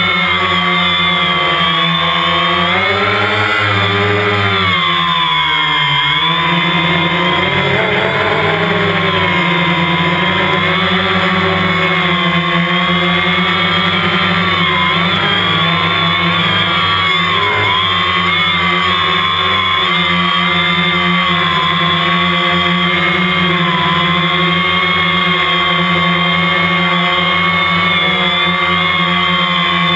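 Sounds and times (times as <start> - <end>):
quadcopter propellers buzzing: 0.0 - 29.9.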